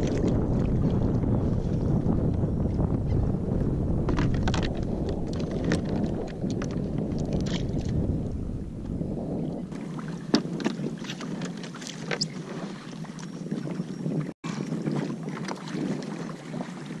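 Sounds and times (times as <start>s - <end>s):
water lapping against kayak: 0.0s - 17.0s
wind buffeting microphone: 0.0s - 17.0s.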